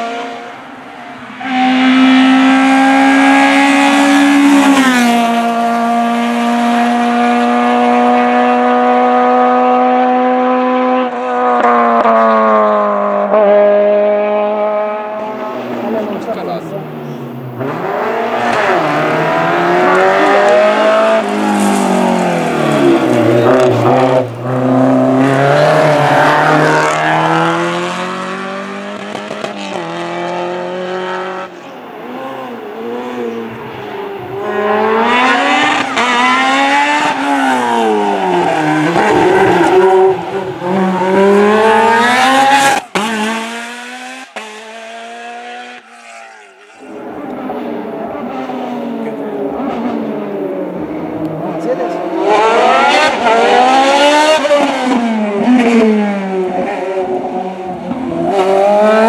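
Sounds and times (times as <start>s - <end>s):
race cars revving past: 0.0s - 59.0s.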